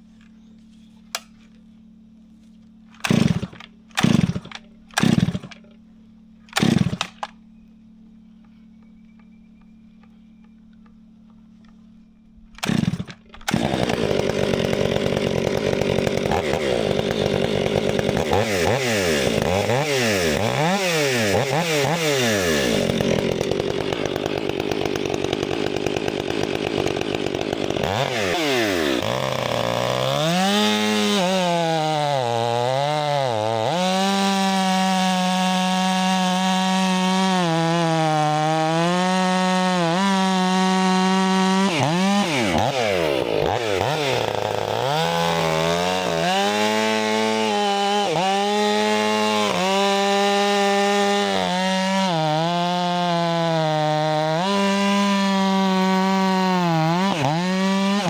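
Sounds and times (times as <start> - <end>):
chainsaw revving and cutting log: 3.0 - 5.6, 6.5 - 7.4, 12.6 - 58.0.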